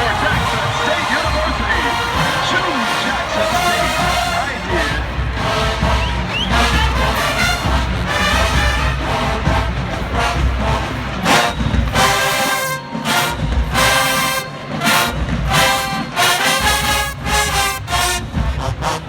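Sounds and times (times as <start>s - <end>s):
marching band brass blasts: 0.0s - 19.0s.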